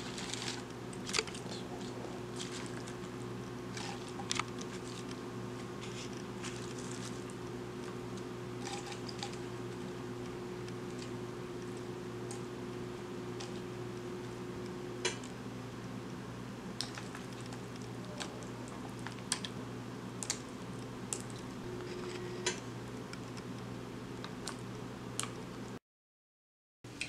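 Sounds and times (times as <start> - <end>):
burner low hum: 0.0 - 25.8.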